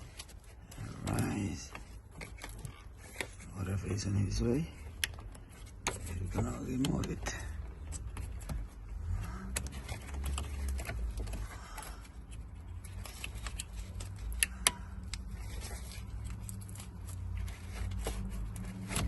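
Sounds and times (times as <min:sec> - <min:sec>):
hand tools clicking and rattling: 0:00.0 - 0:19.0.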